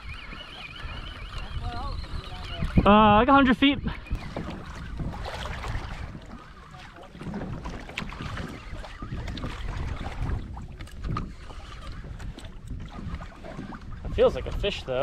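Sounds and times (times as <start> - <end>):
water slapping kayak hull: 0.0 - 15.0
wind buffeting microphone: 0.0 - 15.0.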